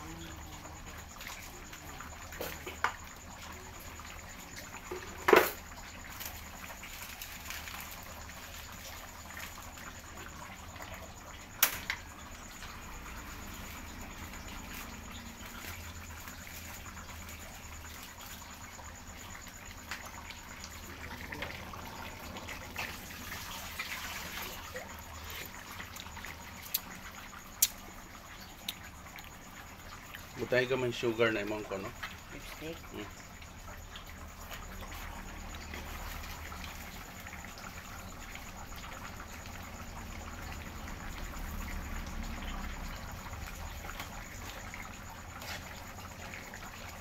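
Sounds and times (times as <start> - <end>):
stew bubbling in a pot: 0.0 - 47.0.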